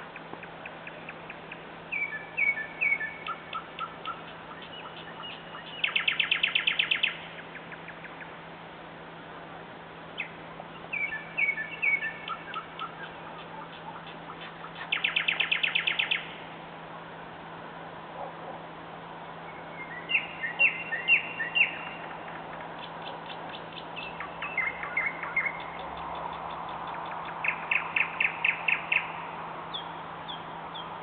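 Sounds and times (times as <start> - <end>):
nightingale singing: 0.0 - 8.4, 10.2 - 16.5, 19.4 - 31.0.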